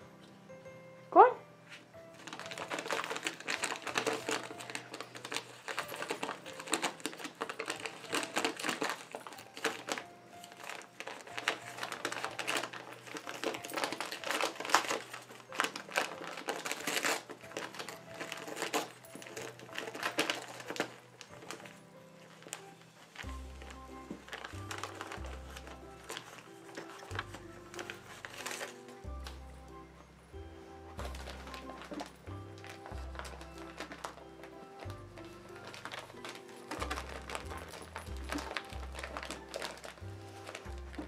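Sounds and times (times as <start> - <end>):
dog tearing wrapping paper: 2.1 - 41.0.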